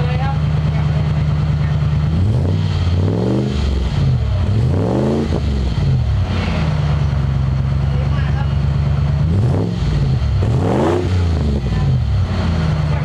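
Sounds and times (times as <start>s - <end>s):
car engine revving and idling: 0.0s - 13.0s.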